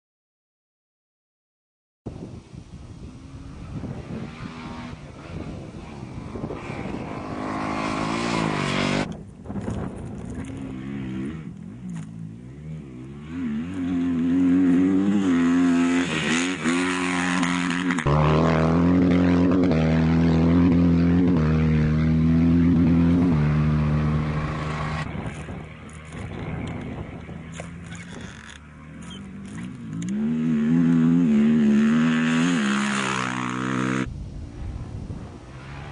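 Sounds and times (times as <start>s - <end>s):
off-road engines revving: 3.1s - 34.1s.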